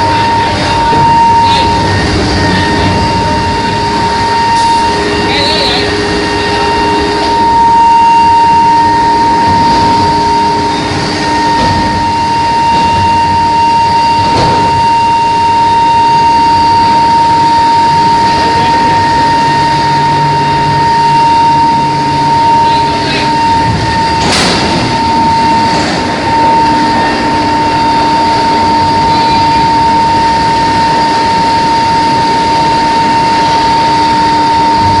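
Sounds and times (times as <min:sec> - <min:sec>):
high-pitched machine whine: 0:00.0 - 0:35.0
industrial din: 0:00.0 - 0:35.0.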